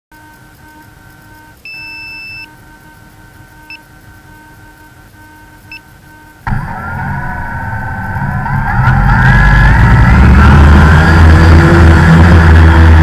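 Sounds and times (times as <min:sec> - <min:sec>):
electronic beeps: 0:00.1 - 0:11.6
faint steady whine: 0:00.1 - 0:13.0
motors spinning up with whine: 0:00.1 - 0:13.0.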